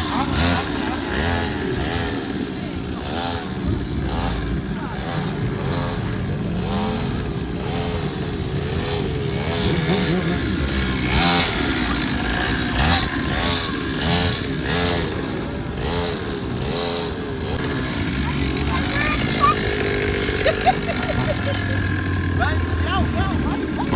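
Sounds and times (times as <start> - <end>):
motorcycle engines revving: 0.0 - 23.9.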